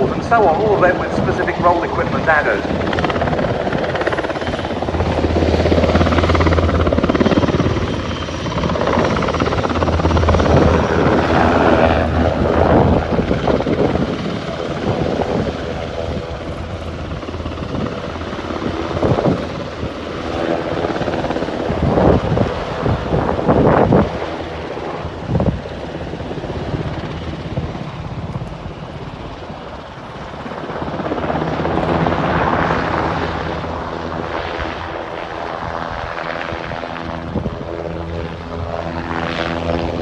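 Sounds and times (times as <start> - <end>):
helicopter flying by: 0.0 - 40.0.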